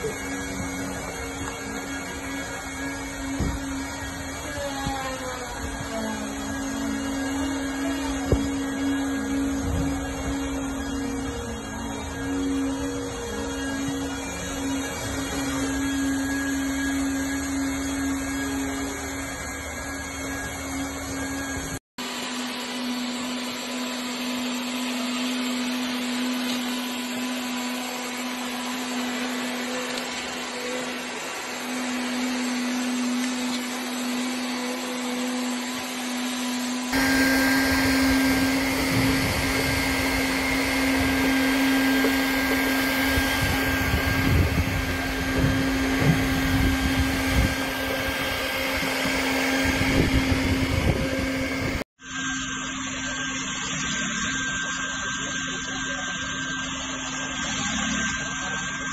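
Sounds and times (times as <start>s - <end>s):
hot-air blower humming: 0.0s - 58.9s.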